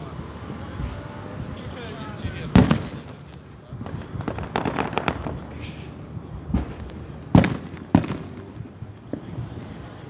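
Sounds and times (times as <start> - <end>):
fireworks booming bursts: 0.0 - 10.0
fireworks crackling pops: 0.0 - 10.0.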